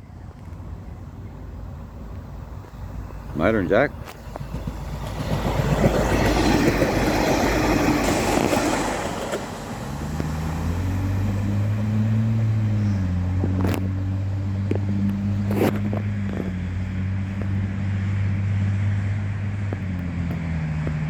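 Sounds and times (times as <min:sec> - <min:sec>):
diesel engine drone: 0:00.0 - 0:21.0
train wheel and rail noise: 0:00.0 - 0:21.0.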